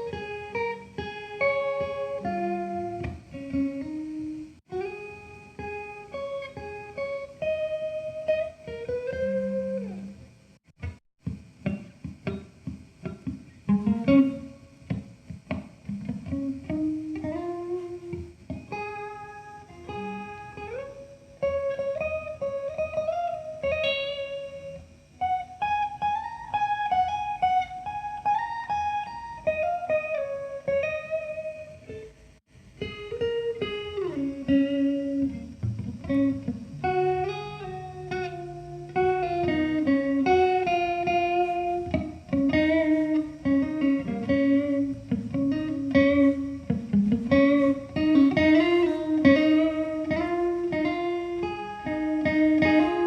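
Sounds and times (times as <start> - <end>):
electric guitar lead: 0.0 - 53.0.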